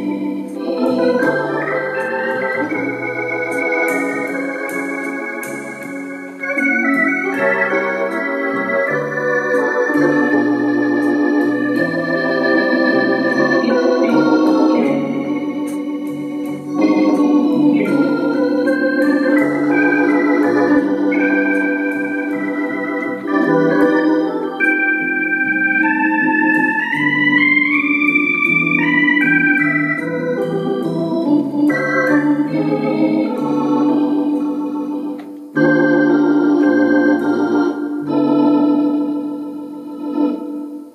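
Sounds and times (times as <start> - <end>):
accordion melody: 0.0 - 40.9.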